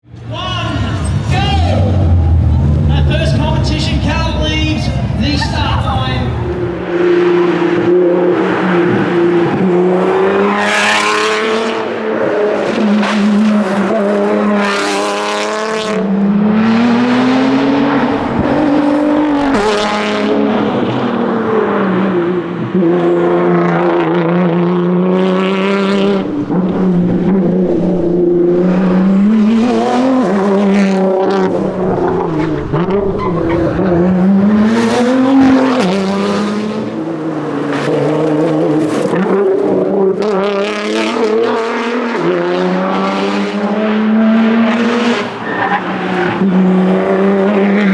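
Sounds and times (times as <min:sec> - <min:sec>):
car engine revving through gears: 0:00.8 - 0:47.9.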